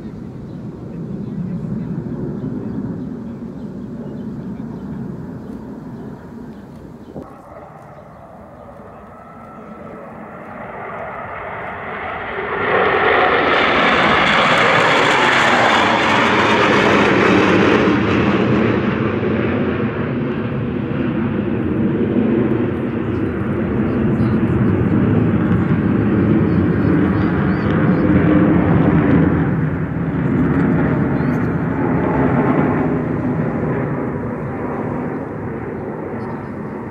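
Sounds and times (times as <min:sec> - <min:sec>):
fighter jets passing overhead: 0:00.0 - 0:36.9.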